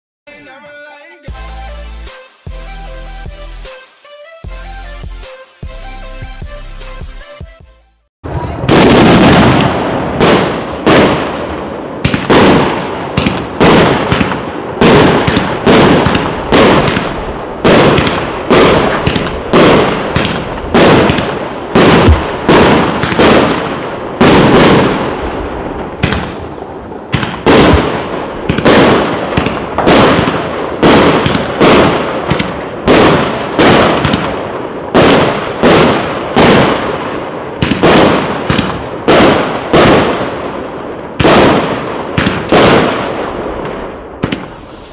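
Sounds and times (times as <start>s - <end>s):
fireworks bangs: 8.2s - 44.9s.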